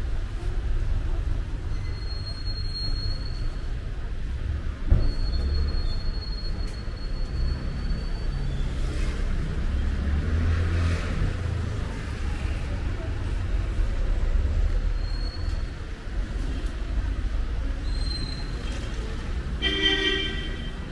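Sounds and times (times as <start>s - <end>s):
street traffic rumble: 0.0s - 20.9s.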